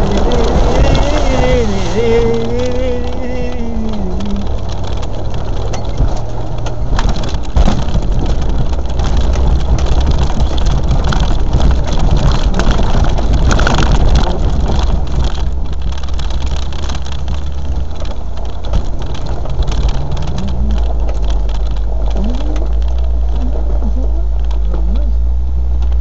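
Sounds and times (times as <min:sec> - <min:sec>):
knocks and rattles: 0:00.0 - 0:26.0
vehicle engine droning: 0:00.0 - 0:26.0.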